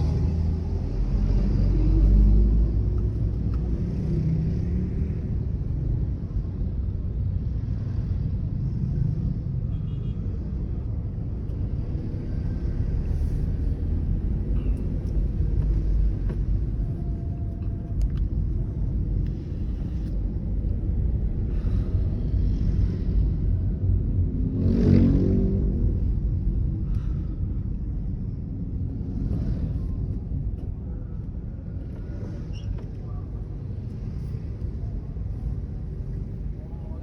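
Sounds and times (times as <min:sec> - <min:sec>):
road rumble inside moving car: 0:00.0 - 0:37.0.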